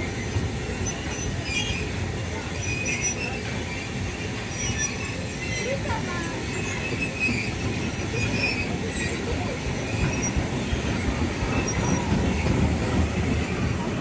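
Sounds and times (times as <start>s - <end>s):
high wheel squeaks: 0.0s - 14.0s
train rumbling on track: 0.0s - 14.0s.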